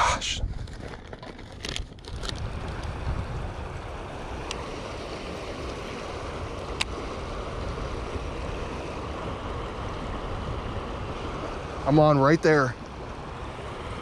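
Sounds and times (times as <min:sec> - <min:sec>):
river current flowing past rocks: 0:00.0 - 0:14.0.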